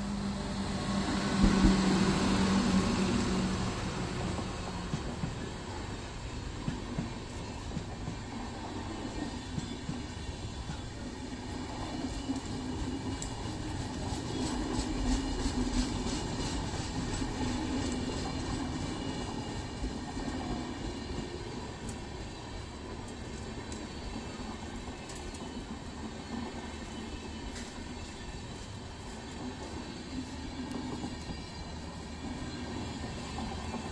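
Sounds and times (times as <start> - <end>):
train coaches rumbling past: 0.0 - 33.9.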